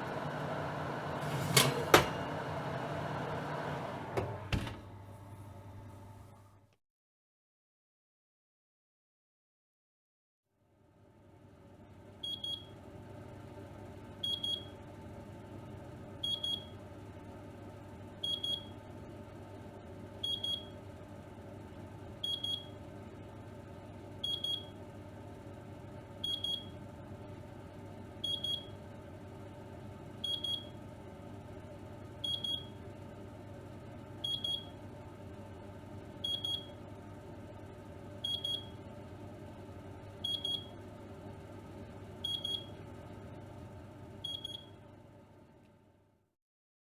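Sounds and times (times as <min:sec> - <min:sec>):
oven humming: 0:00.0 - 0:06.6, 0:11.0 - 0:45.8.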